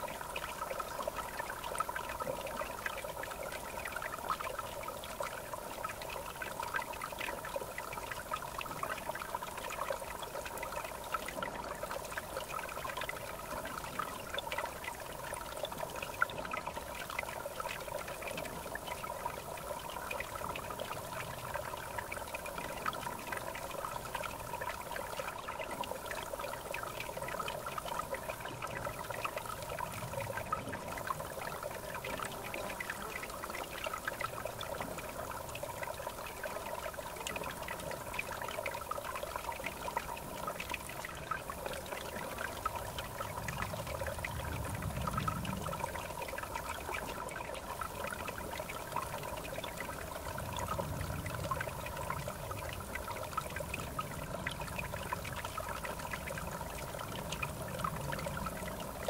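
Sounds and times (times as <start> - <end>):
river water babbling: 0.0 - 59.0.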